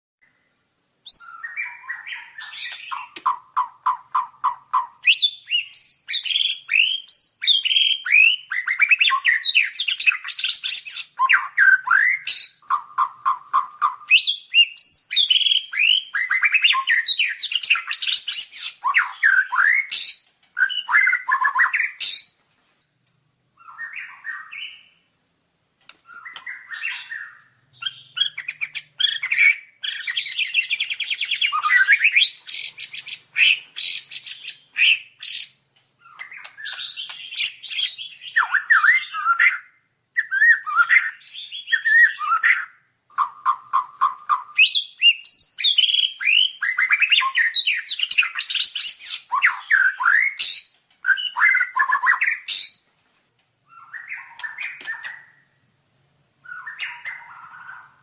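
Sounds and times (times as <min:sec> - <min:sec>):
songbird singing whistles and trills: 0:00.2 - 0:52.9, 0:53.6 - 0:55.6, 0:56.4 - 0:58.0.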